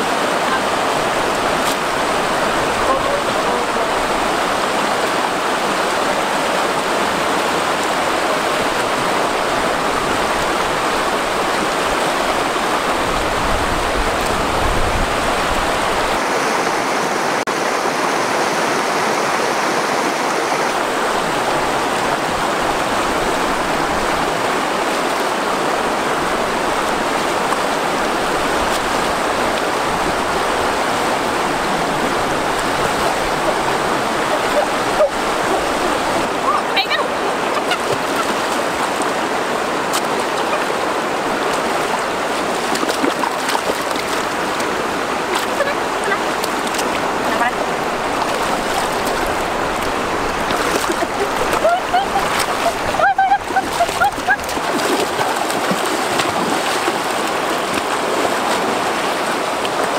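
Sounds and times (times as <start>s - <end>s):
river rushing over rapids: 0.0s - 59.9s.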